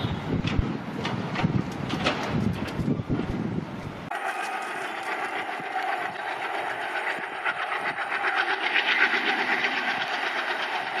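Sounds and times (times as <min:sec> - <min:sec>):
train running on rails: 0:00.0 - 0:11.0.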